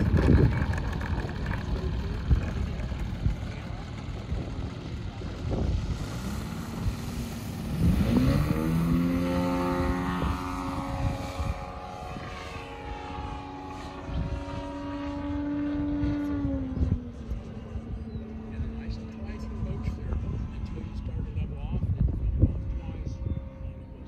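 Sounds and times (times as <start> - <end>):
model plane engine revving: 0.0 - 24.0.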